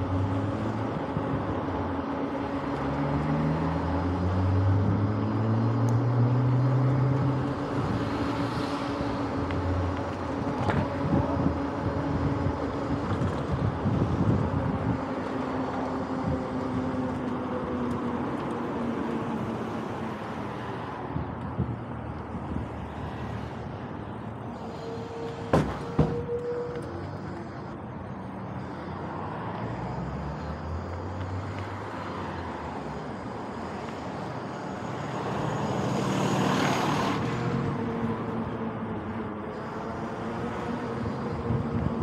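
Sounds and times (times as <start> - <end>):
electric bike motor hum: 0.0 - 20.3, 26.2 - 42.0
cars passing close by: 0.0 - 42.0
wind and road noise: 0.0 - 42.0.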